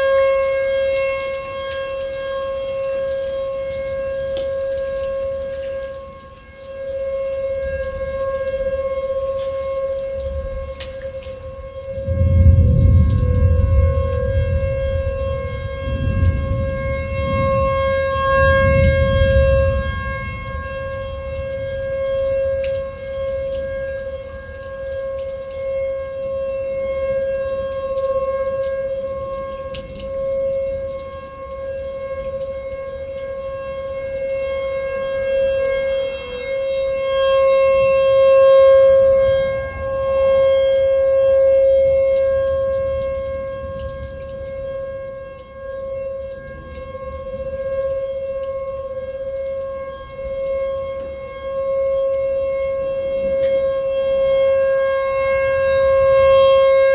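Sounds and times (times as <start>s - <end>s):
warning siren steady tone: 0.0s - 56.9s.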